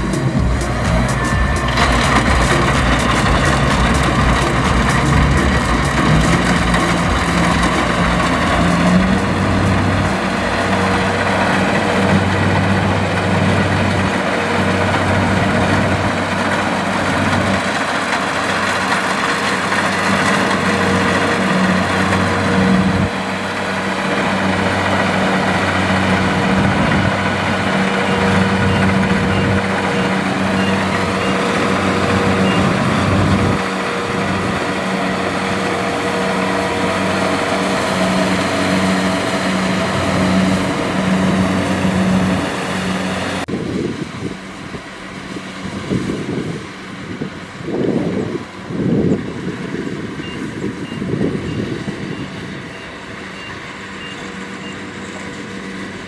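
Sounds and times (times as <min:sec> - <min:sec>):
combine harvester diesel engine hum: 0:00.0 - 0:56.0
cutting and threshing machinery: 0:00.0 - 0:56.0.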